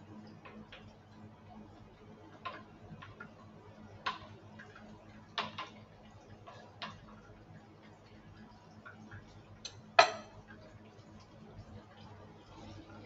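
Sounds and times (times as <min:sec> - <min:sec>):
low steady hum: 0:00.0 - 0:13.0
oil sizzling and popping: 0:00.0 - 0:13.0.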